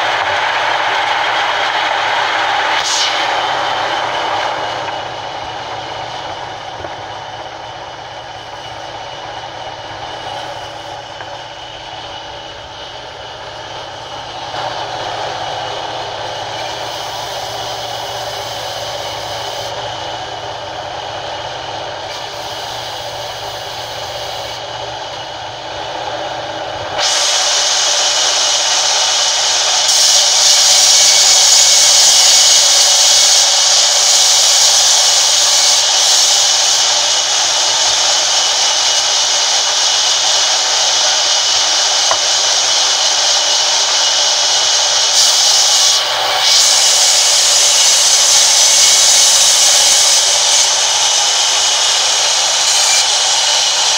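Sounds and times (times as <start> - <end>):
band saw cutting wood: 0.0 - 53.9.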